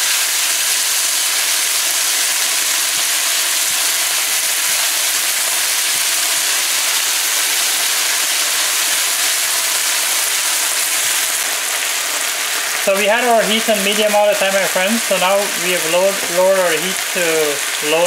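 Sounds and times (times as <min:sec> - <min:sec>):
rice sizzling in a frying pan: 0:00.0 - 0:18.0.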